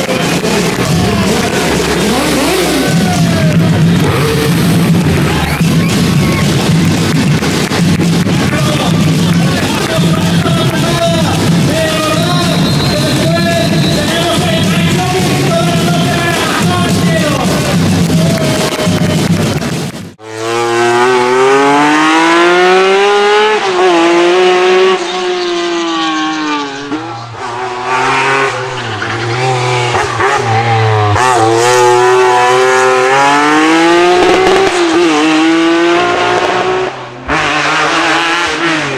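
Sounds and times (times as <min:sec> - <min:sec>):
racing car engine accelerating: 0:00.0 - 0:38.9.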